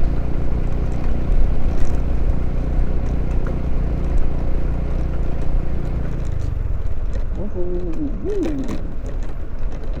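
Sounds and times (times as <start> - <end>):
motorcycle engine drone: 0.0 - 10.0.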